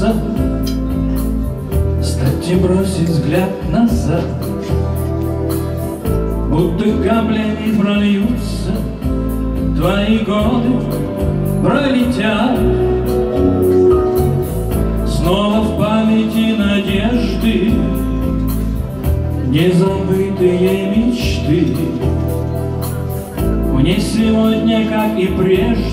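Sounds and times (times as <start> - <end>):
man singing: 0.0 - 5.1, 6.0 - 25.9.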